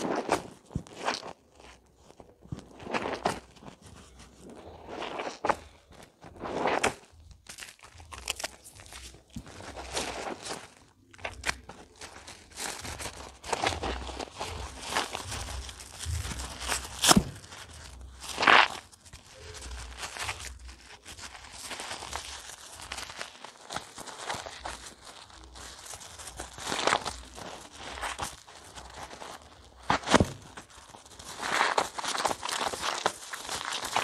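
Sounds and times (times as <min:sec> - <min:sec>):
wet squishing of soap foam: 0:00.0 - 0:34.0.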